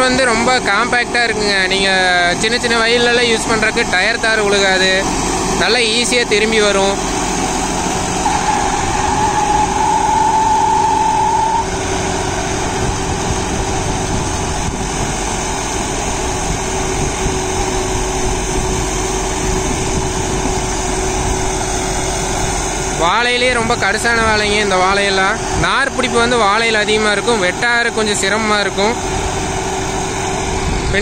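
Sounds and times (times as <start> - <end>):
high whine: 0.0 - 31.0
tractor diesel engine under load: 0.0 - 31.0.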